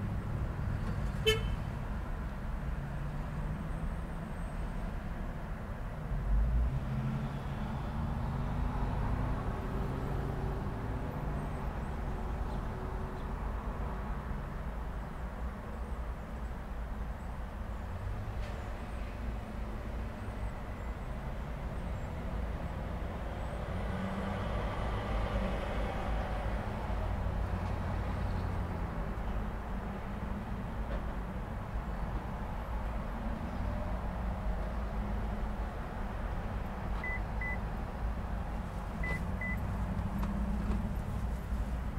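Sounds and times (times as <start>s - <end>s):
traffic rumble: 0.0s - 41.9s.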